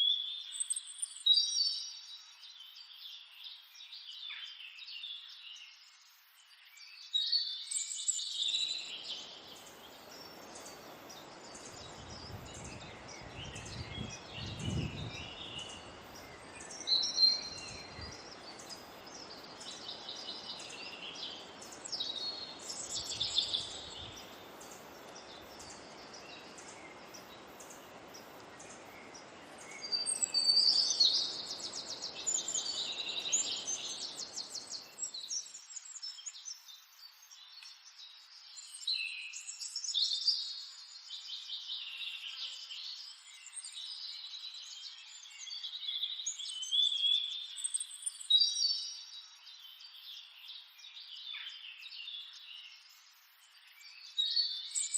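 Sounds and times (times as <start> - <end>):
wild birds chirping and trilling: 0.0 - 54.9.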